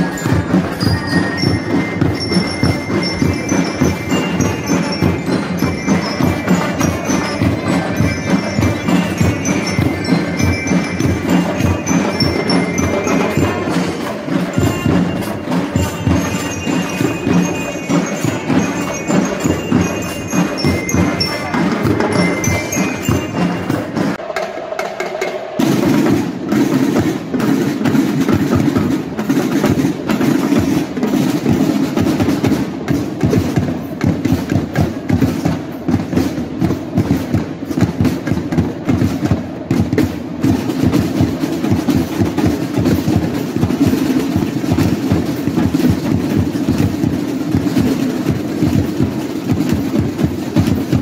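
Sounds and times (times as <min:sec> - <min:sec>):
snare and bass drum cadence: 0:00.0 - 0:51.0.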